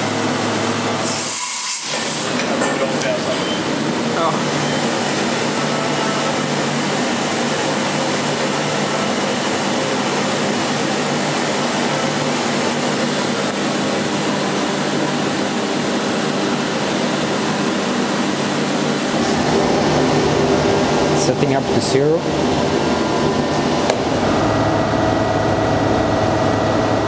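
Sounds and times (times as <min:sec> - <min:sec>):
machinery hum and hiss: 0:00.0 - 0:27.0.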